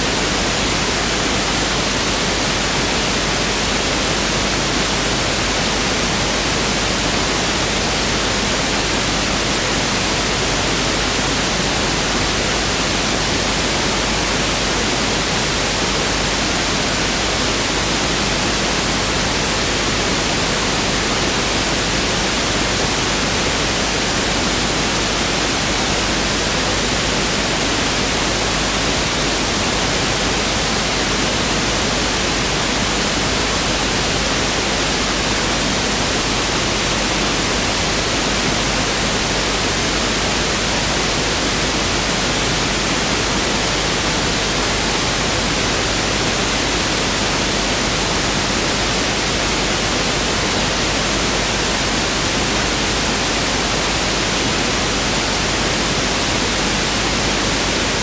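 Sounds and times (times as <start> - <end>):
pink noise steady hiss: 0.0 - 58.0.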